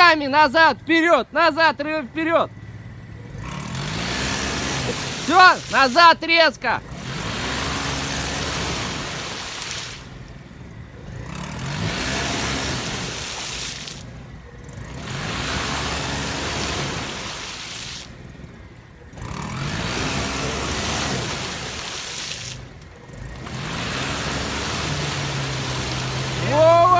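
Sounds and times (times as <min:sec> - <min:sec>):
car engine revving: 0:00.0 - 0:26.9
wheels spinning in mud: 0:00.0 - 0:26.9.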